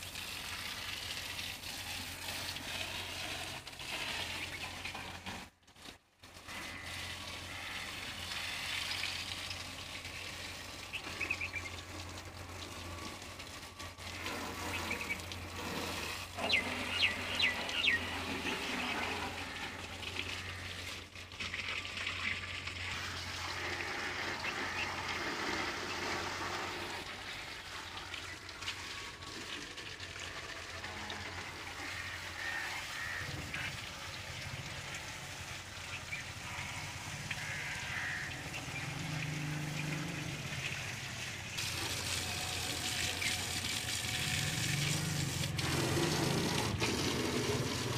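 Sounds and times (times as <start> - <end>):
hose water spraying on metal: 0.0 - 47.9.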